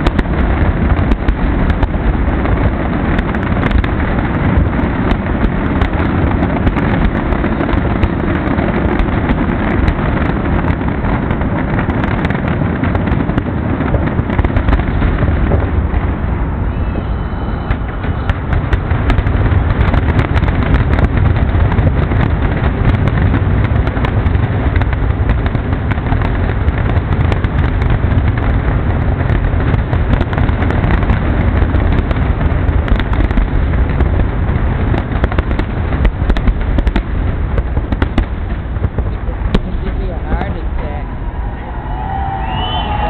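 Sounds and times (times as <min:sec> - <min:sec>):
fireworks booming and crackling: 0:00.0 - 0:43.0.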